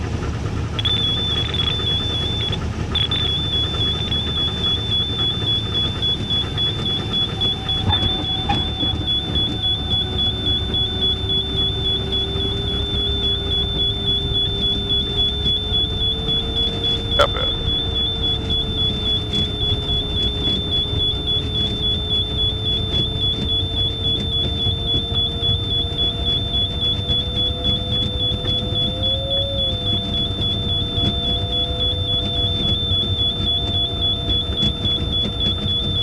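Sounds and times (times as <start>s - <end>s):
wheel rumbling on runway: 0.0s - 36.0s
electronic tones: 0.8s - 36.0s.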